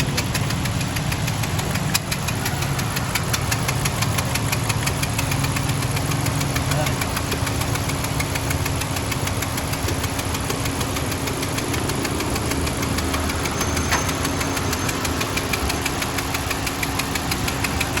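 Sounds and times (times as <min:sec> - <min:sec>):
car engine running: 0:00.0 - 0:18.0
rapid ticking engine clatter: 0:00.0 - 0:18.0.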